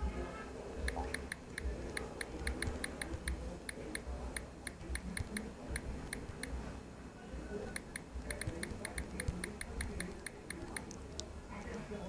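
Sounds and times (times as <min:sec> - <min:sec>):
phone keyboard clicks: 0:00.9 - 0:06.6, 0:07.8 - 0:11.8.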